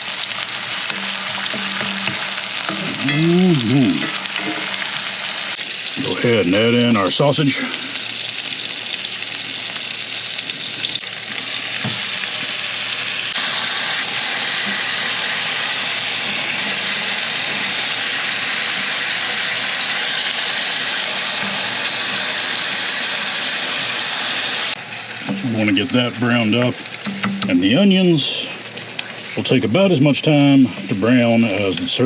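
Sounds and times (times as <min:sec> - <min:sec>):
food sizzling in a skillet: 0:00.0 - 0:32.0.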